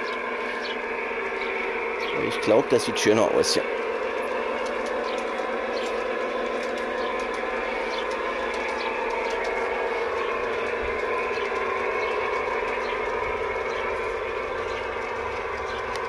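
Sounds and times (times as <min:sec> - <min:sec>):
model train motors humming: 0:00.0 - 0:16.0
wheels clicking over track: 0:00.0 - 0:16.0.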